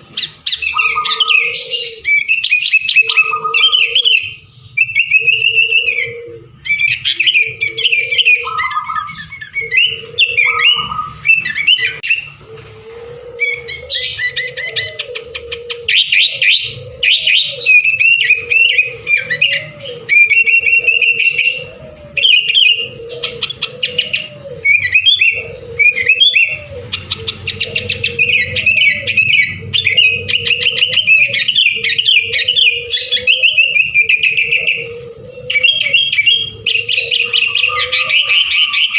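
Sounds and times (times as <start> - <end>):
bird singing and chirping: 0.0 - 38.9.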